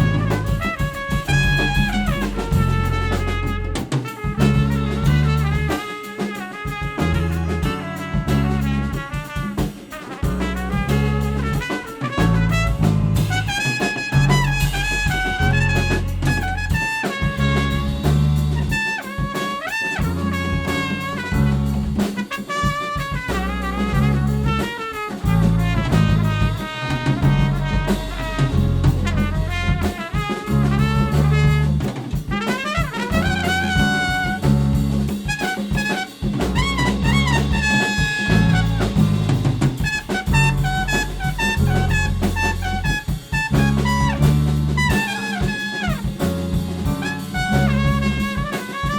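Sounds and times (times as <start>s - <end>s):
walking bass: 0.0s - 5.9s, 6.8s - 9.2s, 10.2s - 18.9s, 20.0s - 22.2s, 23.2s - 35.4s, 36.2s - 48.9s
drum kit: 0.0s - 48.9s
trumpet lead line: 0.0s - 48.9s.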